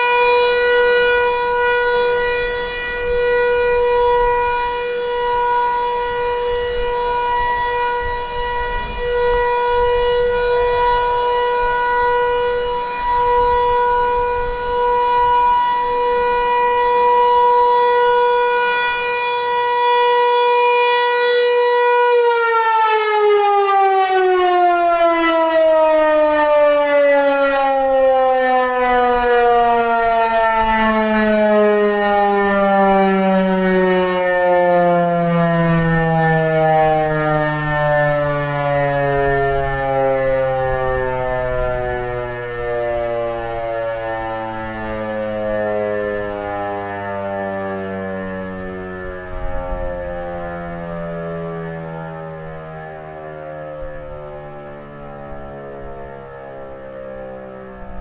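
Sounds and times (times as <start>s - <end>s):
outdoor warning siren: 0.0s - 58.0s.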